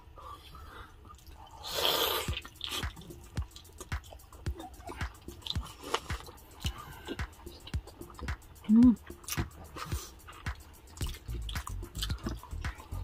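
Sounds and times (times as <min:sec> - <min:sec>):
wet chewing and lip-smacking: 0:00.9 - 0:13.0
wet bite: 0:01.1 - 0:13.0
sharp mouth clicks: 0:01.2 - 0:13.0.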